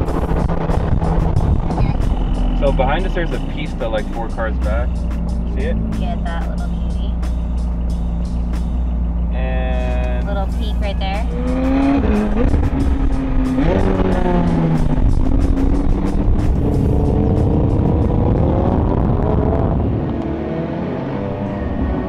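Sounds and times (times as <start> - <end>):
music: 0.0 - 19.1
sports car engine revving: 0.0 - 22.0.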